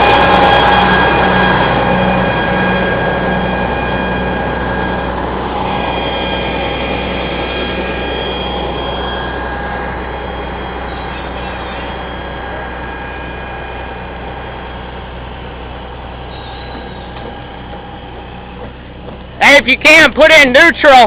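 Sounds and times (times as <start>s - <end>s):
heavy truck engine whining: 0.0s - 20.9s.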